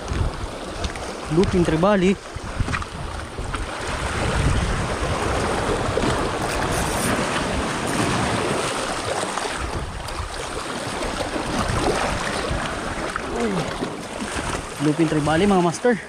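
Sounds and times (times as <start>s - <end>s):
wind buffeting microphone: 0.0s - 15.6s
sea waves rushing: 0.0s - 16.0s.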